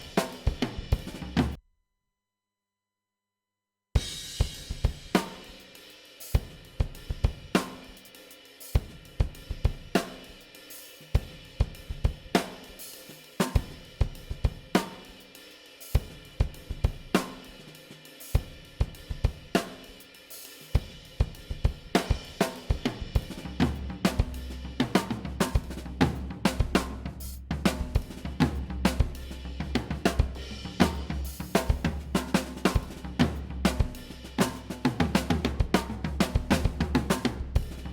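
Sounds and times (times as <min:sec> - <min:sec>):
drum kit playing a groove: 0:00.0 - 0:01.6, 0:04.0 - 0:37.9.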